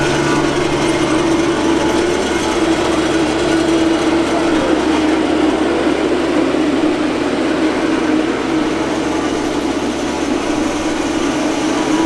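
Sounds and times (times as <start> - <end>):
small loader engine running: 0.0 - 12.0.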